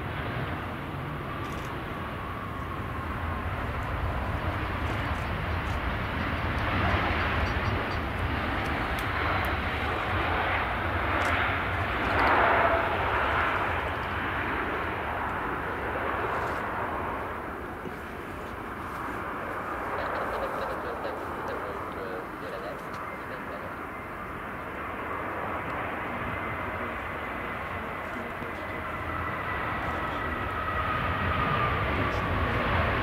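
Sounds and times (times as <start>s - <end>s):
airliner landing and rolling out: 0.0s - 33.0s
jet engines roaring: 0.0s - 33.0s.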